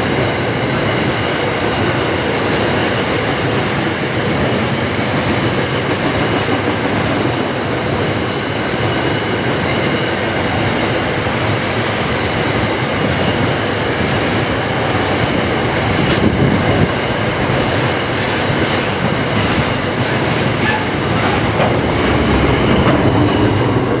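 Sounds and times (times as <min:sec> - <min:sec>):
freight train wheels on rail: 0:00.0 - 0:24.0.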